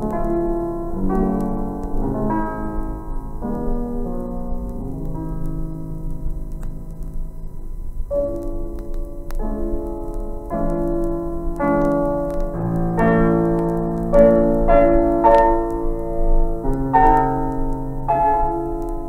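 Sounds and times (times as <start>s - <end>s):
piano playing slow chords: 0.0s - 19.0s.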